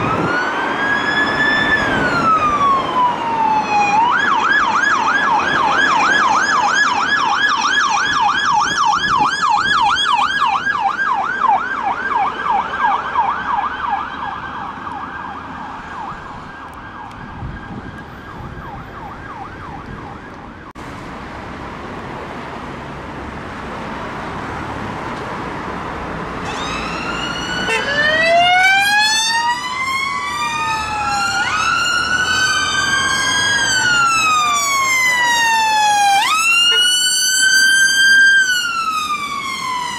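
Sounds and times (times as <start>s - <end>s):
police siren yelp: 0.0s - 20.7s, 26.4s - 39.9s
ambulance siren wail: 0.0s - 20.8s, 26.4s - 39.9s.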